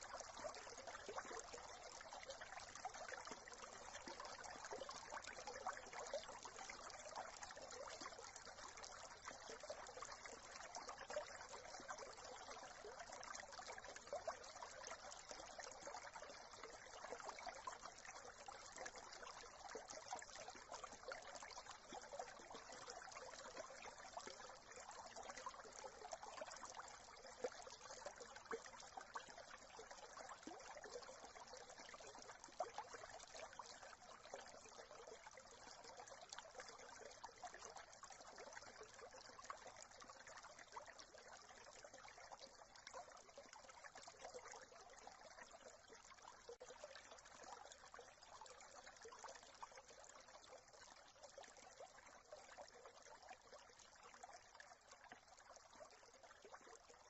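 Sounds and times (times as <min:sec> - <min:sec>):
brook trickling: 0:00.0 - 0:57.0.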